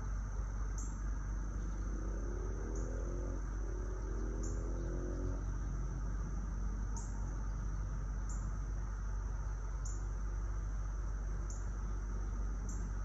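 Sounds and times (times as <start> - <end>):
cicadas droning: 0.0 - 13.0
light traffic rumble: 0.0 - 13.0.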